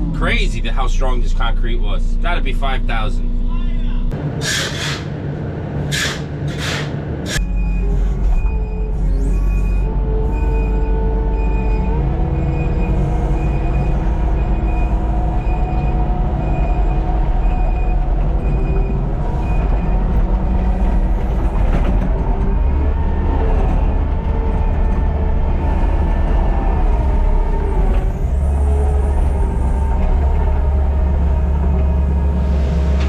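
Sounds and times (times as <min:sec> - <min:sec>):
mini excavator engine running: 0:04.2 - 0:33.0
hydraulic whine: 0:05.8 - 0:33.0
squealing metallic tones: 0:05.9 - 0:33.0.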